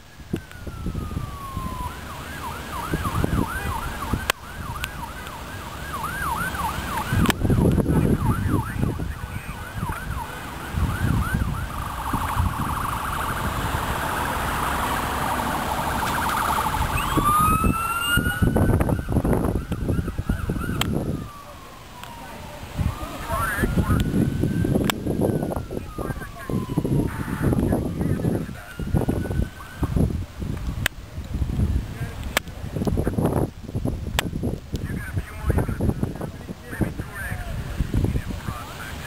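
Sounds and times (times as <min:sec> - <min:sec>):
emergency vehicle siren: 0:00.0 - 0:30.6, 0:34.8 - 0:39.0.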